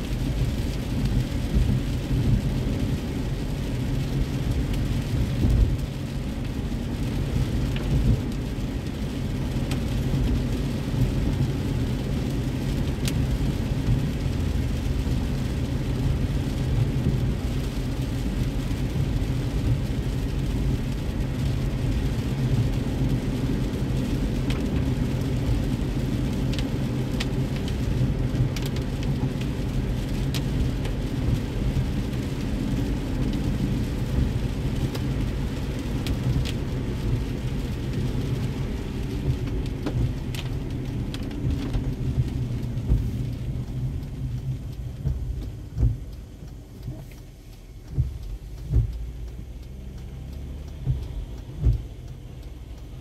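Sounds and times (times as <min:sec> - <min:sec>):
raindrops ticking on windshield: 0:00.0 - 0:53.0
road and rain rumble in car: 0:00.0 - 0:53.0.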